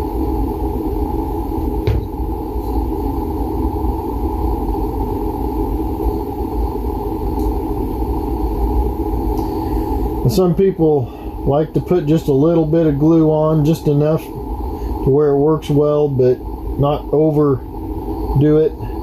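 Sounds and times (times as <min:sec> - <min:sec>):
machine rumbling: 0:00.0 - 0:19.0.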